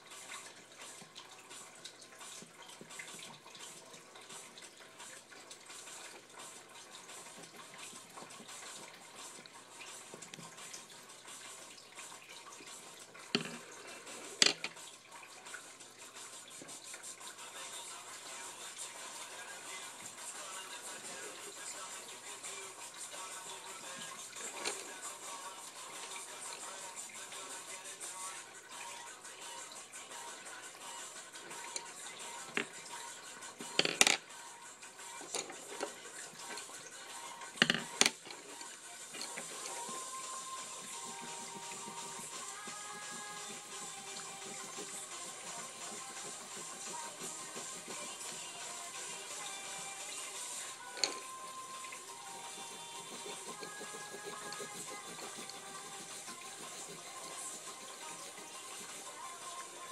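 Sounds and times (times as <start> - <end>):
faint background music: 0.0 - 59.9.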